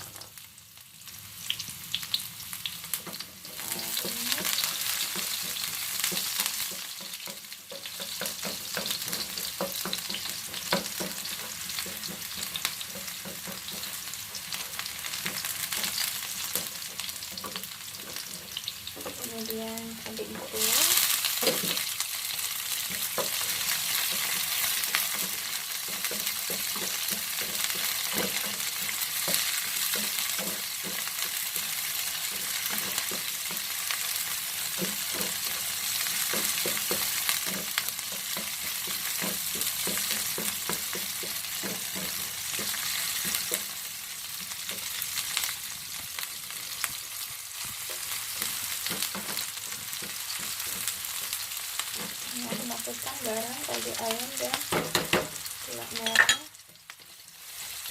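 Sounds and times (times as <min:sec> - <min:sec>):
vegetables sizzling in hot oil: 0:00.0 - 0:57.9
spatula scraping and tapping pan: 0:02.9 - 0:57.8.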